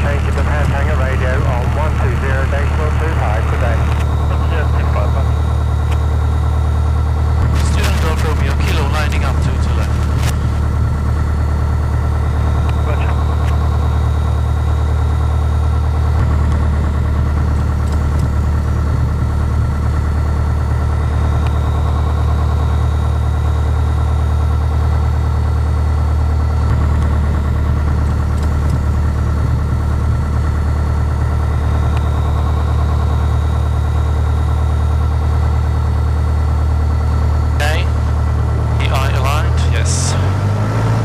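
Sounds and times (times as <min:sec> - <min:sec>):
airplane engine drone: 0:00.0 - 0:41.0.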